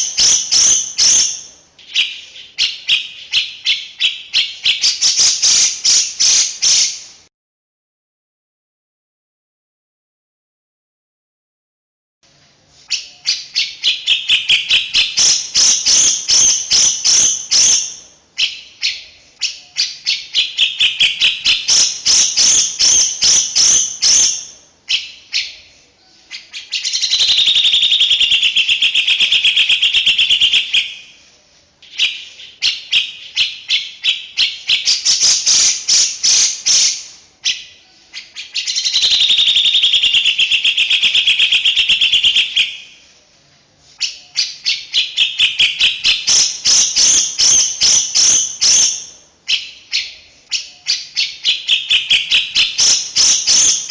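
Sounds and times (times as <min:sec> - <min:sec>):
songbird chattering song: 0:00.0 - 0:07.2, 0:12.8 - 0:43.1, 0:43.9 - 0:53.9.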